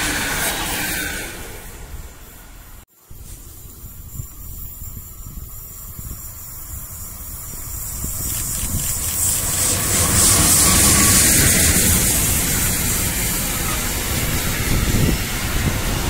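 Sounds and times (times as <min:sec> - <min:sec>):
approaching train rushing: 0:00.0 - 0:16.0
wind buffeting microphone: 0:01.3 - 0:16.0.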